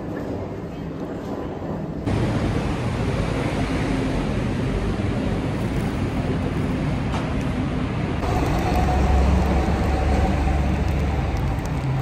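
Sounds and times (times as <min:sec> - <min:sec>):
city street traffic: 0:00.0 - 0:12.0
vehicle engine rumble: 0:02.0 - 0:12.0.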